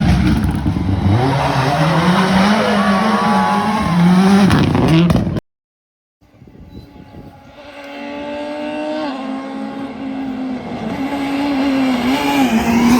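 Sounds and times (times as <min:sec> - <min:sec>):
car engine revving: 0:00.0 - 0:05.3, 0:07.2 - 0:12.9.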